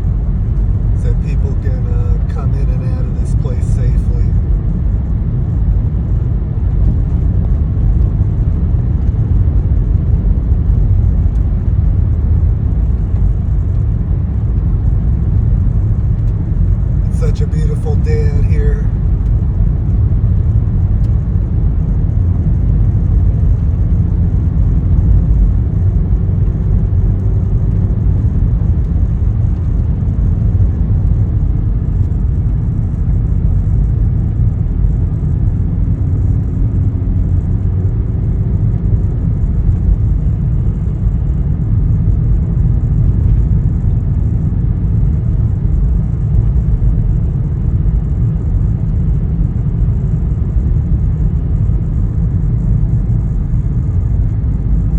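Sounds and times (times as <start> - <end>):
car engine and tyre rumble: 0.0 - 54.9.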